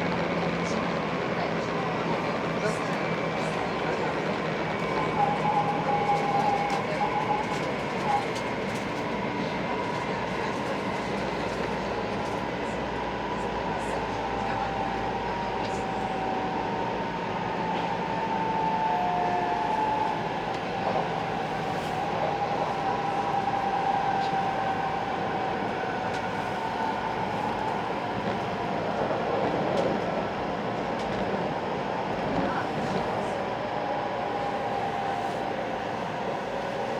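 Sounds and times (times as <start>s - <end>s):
train interior running rumble: 0.0s - 36.9s.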